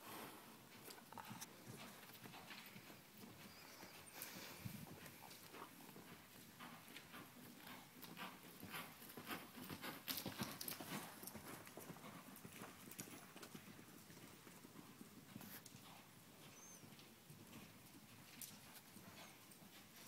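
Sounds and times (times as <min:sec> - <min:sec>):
horse hoofbeats on dirt: 0:00.8 - 0:20.0.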